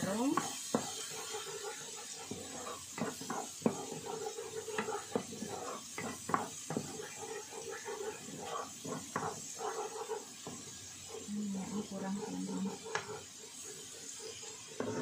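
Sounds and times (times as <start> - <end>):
food sizzling in oil: 0.0 - 15.0
spatula scraping frying pan: 0.0 - 15.0.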